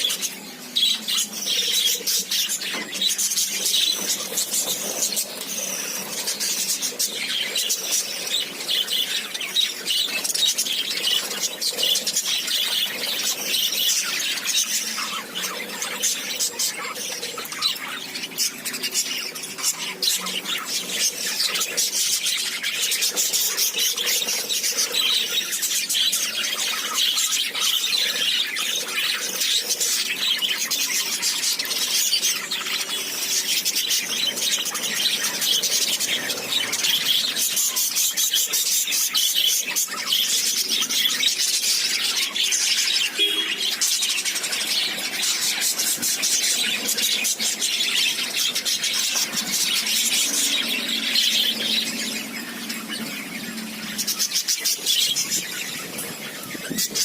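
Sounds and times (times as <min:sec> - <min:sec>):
parrots chattering and squeaking: 0:00.0 - 0:57.0.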